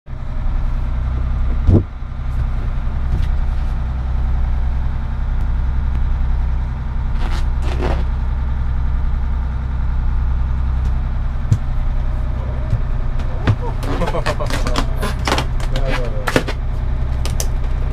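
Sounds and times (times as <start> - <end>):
boat engine running: 0.1 - 17.9.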